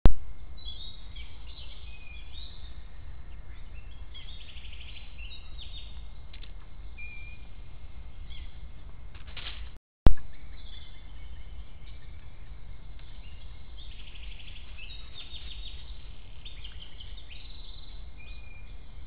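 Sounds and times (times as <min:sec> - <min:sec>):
steady low rumble: 0:00.1 - 0:09.3, 0:10.1 - 0:19.0
songbirds calling and singing: 0:00.3 - 0:19.0.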